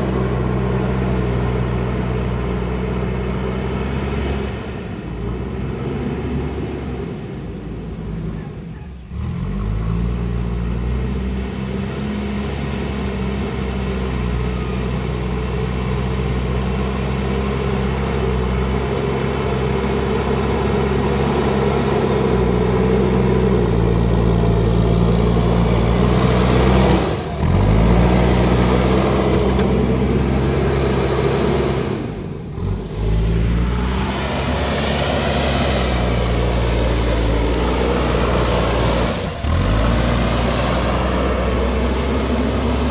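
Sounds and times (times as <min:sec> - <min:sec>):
diesel engine working: 0:00.0 - 0:42.9.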